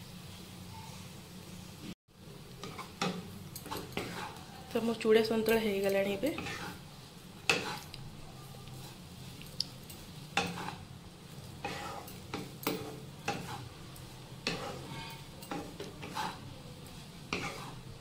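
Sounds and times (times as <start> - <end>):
wooden spatula scraping a pan: 2.6 - 9.4, 10.0 - 18.0.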